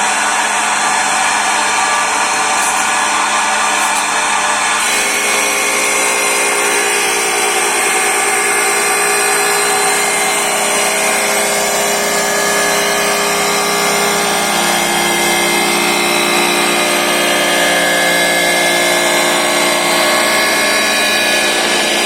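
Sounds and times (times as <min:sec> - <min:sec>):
woodworking machine humming: 0:00.0 - 0:22.0.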